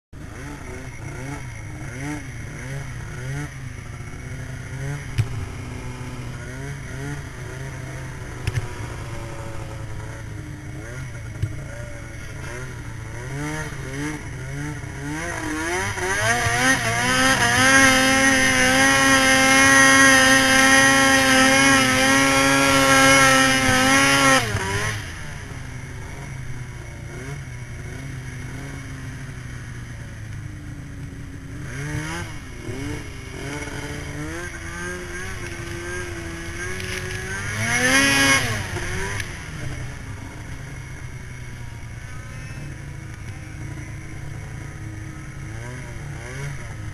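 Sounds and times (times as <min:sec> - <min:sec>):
snowmobile engine revving: 0:00.2 - 0:46.9.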